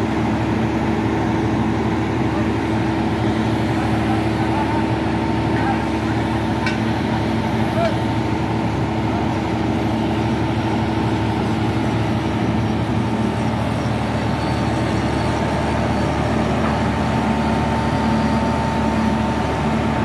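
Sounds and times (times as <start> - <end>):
engine drone with held tones: 0.0 - 20.0.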